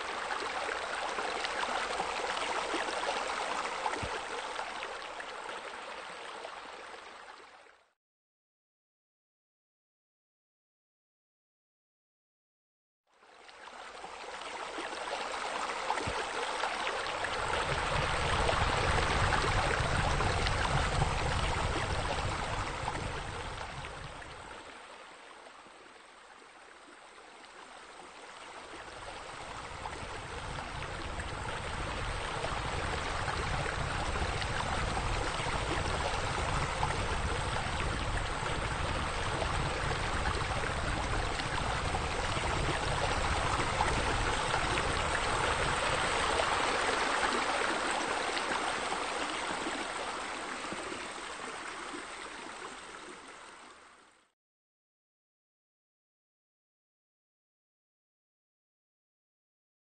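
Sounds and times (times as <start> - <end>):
water rushing and splashing: 0.0 - 7.7, 13.2 - 54.1.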